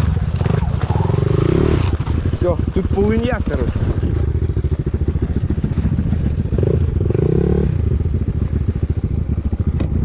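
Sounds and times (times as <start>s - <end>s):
motorcycle engine running at low revs: 0.0s - 10.0s.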